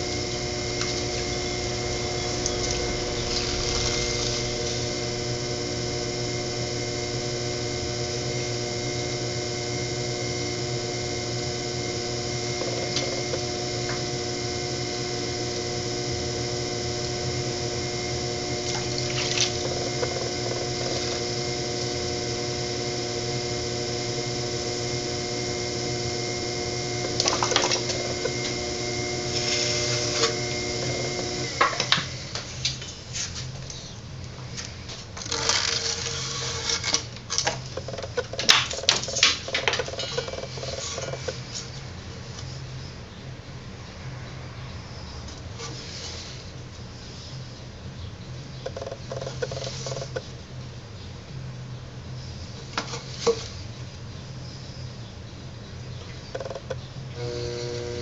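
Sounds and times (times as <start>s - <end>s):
potter's wheel motor whine: 0.0s - 42.9s, 48.6s - 50.3s, 55.9s - 58.0s.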